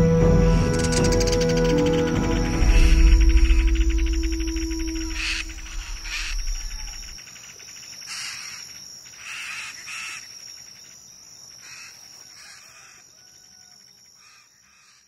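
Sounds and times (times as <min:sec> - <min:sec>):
high-pitched insect whine: 0:00.0 - 0:15.0
insects buzzing trills: 0:00.0 - 0:15.0.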